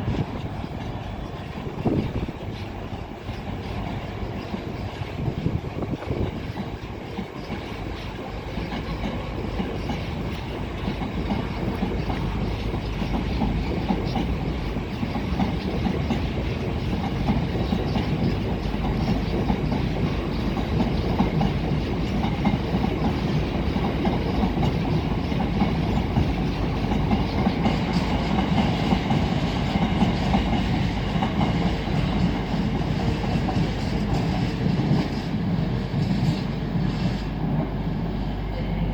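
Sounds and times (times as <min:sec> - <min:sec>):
train wheels clattering over rail joints: 0:00.0 - 0:38.5.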